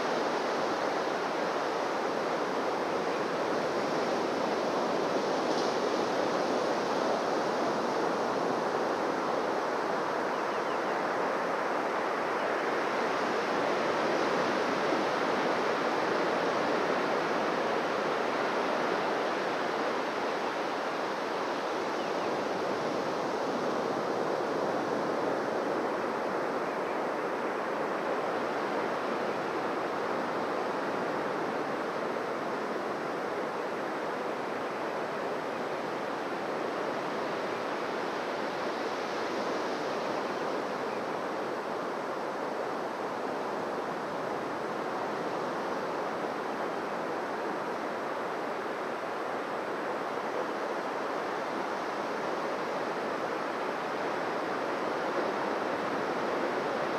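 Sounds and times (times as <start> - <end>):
waves washing onto beach: 0.0 - 56.9.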